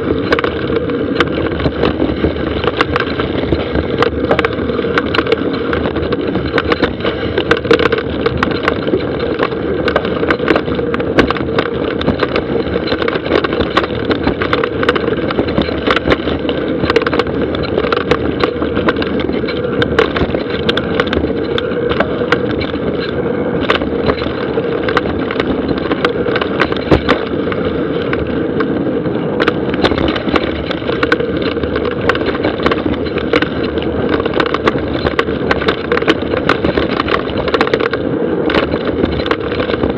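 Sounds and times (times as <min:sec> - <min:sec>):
bike clacks and rattles: 0:00.0 - 0:39.9
bike tyres rolling on dirt: 0:00.0 - 0:39.9.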